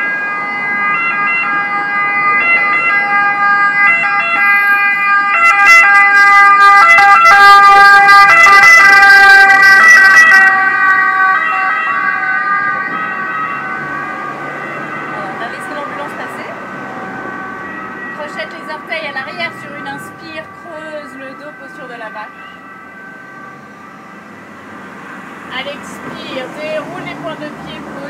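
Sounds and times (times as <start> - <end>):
emergency vehicle siren: 0.0 - 28.0.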